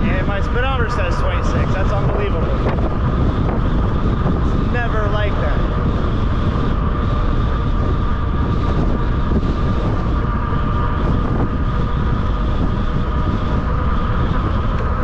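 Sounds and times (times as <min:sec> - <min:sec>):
electric bike hum: 0:00.0 - 0:15.0
high-pitched whine: 0:00.0 - 0:15.0
wind rushing over microphone: 0:00.0 - 0:15.0.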